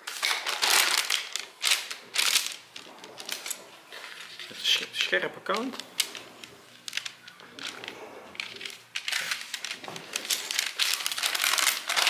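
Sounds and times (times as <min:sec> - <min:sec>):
baking paper rustling and crinkling: 0:00.0 - 0:12.0.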